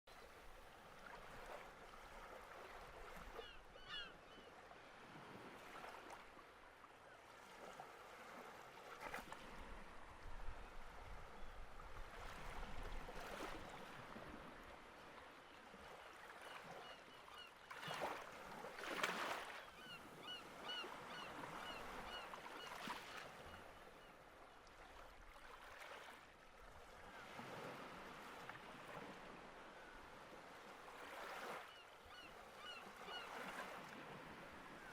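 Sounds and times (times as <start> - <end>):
wind: 0.0 - 34.9.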